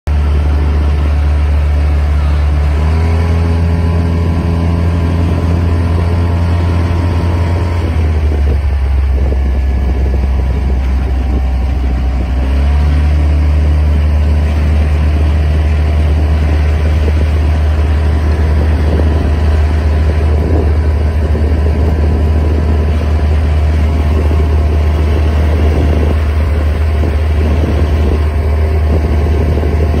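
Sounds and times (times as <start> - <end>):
outboard motor running: 0.1 - 30.0.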